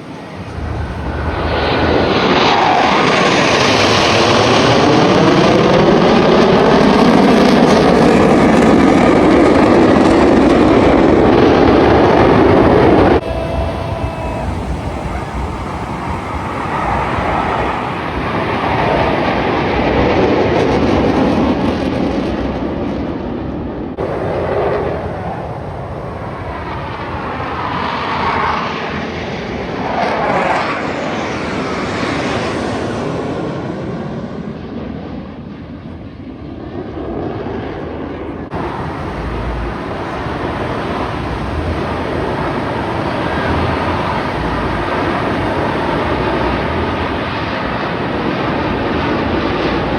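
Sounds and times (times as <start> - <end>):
jet engines flying past: 0.0 - 49.9.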